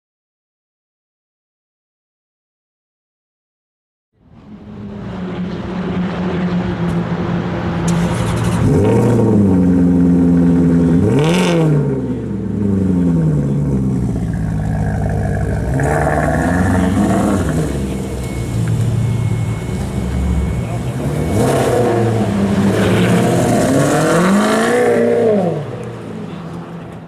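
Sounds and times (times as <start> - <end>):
car exhaust idling and revving: 4.3 - 27.0.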